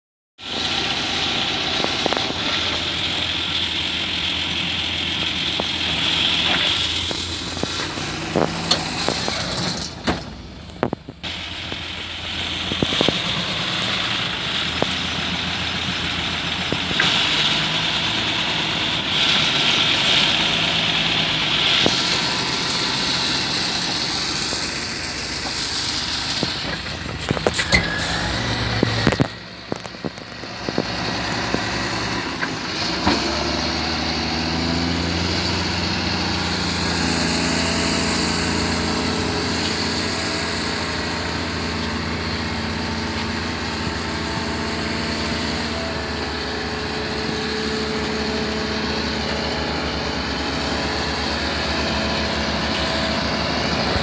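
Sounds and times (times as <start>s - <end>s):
diesel tractor engines running: 0.4s - 54.0s.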